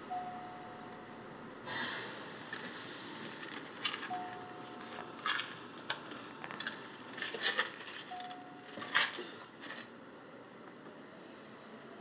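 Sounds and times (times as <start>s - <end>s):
thin steady whine: 0.0s - 12.0s.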